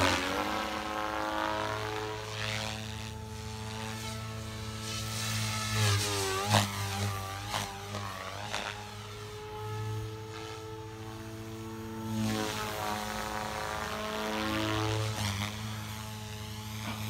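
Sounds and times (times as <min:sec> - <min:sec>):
rc helicopter rotor hum: 0:00.0 - 0:17.0.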